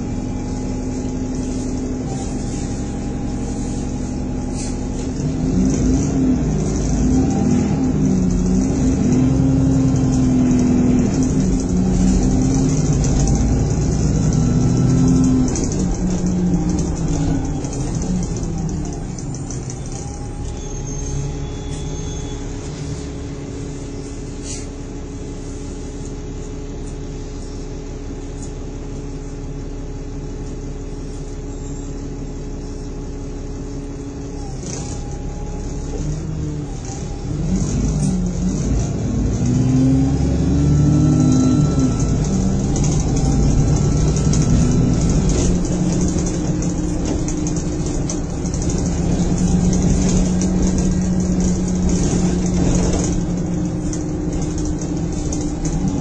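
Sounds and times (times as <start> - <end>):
bus engine: 0.0 - 56.0.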